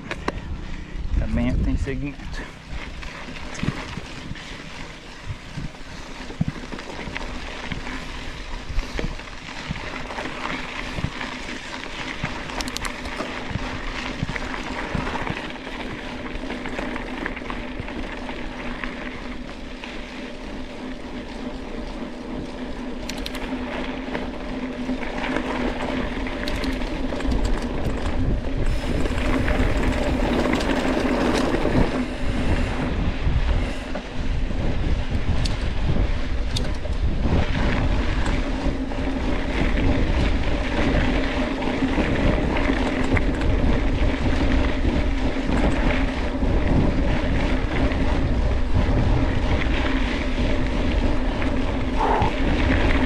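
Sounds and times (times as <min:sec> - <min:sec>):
bike knocking and rattling: 0:00.0 - 0:53.0
bike tyres rolling on dirt: 0:00.0 - 0:53.0.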